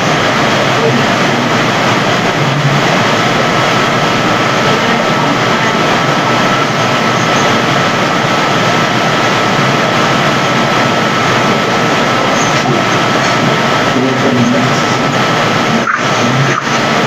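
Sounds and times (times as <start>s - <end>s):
hissing static: 0.0s - 17.0s
thin steady whine: 0.0s - 17.0s.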